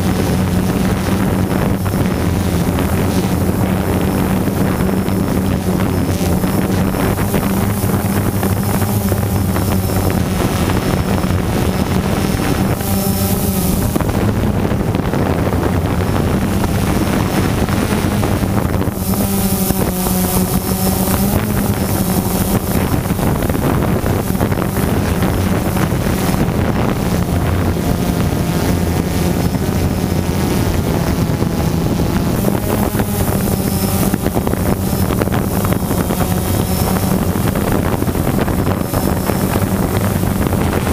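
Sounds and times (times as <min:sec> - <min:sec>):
drone propellers buzzing: 0:00.0 - 0:40.9
wind on microphone: 0:00.0 - 0:40.9.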